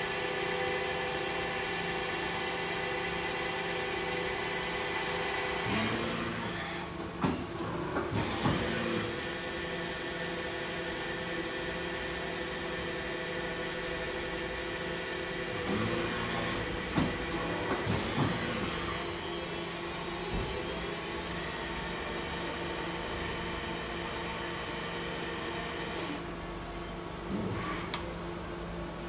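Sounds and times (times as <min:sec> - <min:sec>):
machine tool humming: 0:00.0 - 0:26.2
loud mechanical noise: 0:00.0 - 0:29.0.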